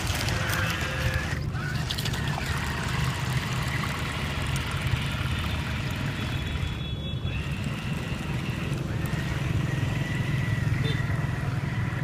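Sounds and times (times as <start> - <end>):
small electric motor running: 0.0 - 12.0.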